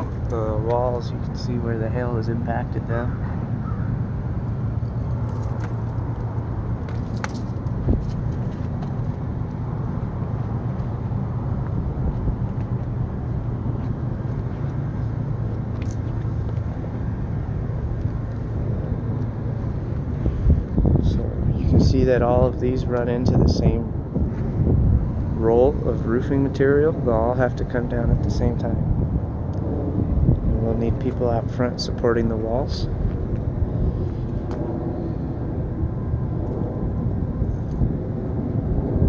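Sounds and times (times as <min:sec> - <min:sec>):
low mechanical hum and rumble: 0:00.0 - 0:39.0.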